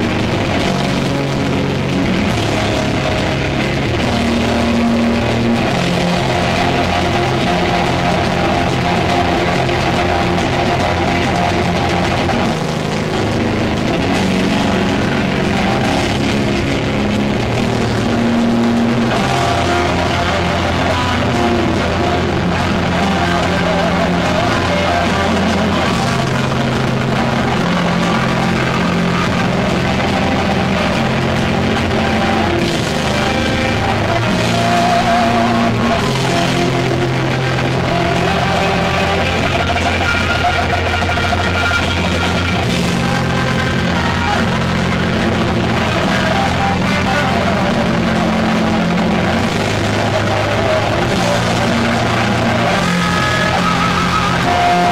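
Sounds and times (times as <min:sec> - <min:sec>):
distorted electric guitar chords: 0:00.0 - 0:54.9
heavy metal band playing live: 0:00.0 - 0:54.9.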